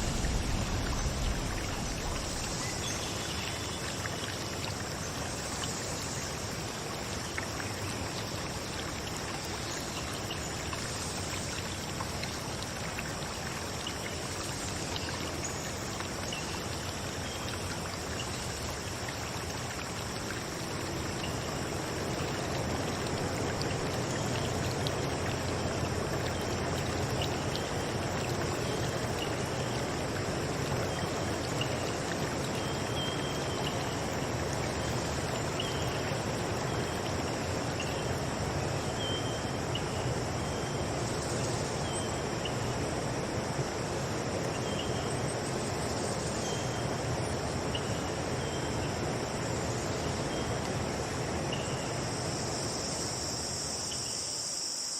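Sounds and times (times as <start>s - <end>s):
high drone of insects: 0.0s - 54.9s
stream flowing: 0.0s - 54.9s.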